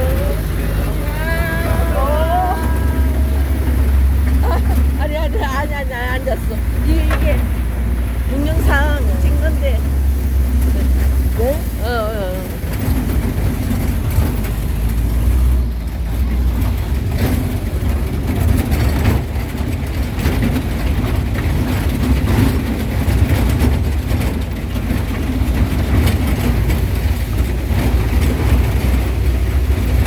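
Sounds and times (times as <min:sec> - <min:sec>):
vehicle engine and road rumble: 0:00.0 - 0:30.0
vehicle knocks and rattles: 0:00.0 - 0:30.0.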